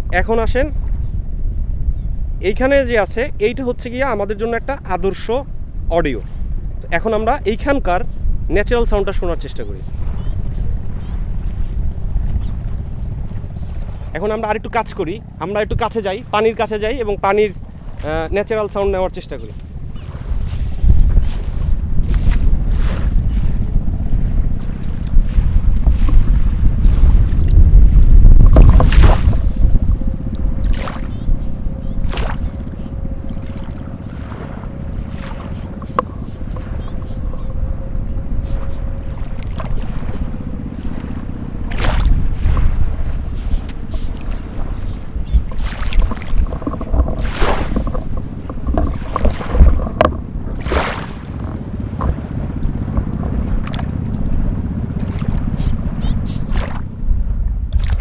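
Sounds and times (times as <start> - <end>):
wind rumble on microphone: 0.0 - 58.0
water lapping and splashing: 8.8 - 58.0.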